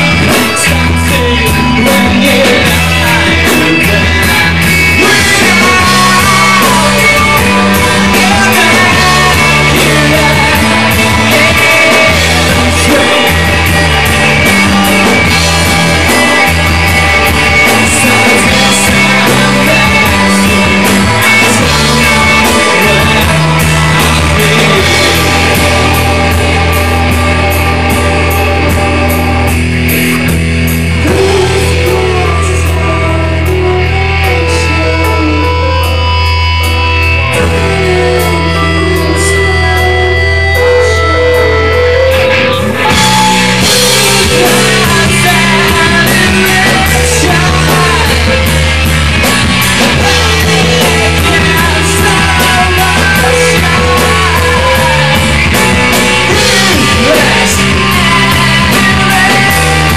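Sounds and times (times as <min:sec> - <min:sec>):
bass guitar: 0:00.0 - 0:59.9
electric guitar: 0:00.0 - 0:59.9.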